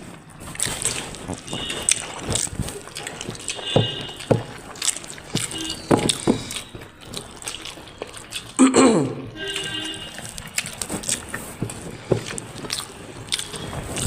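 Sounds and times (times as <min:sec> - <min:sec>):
wet mouth smacking and chewing: 0:00.0 - 0:14.0.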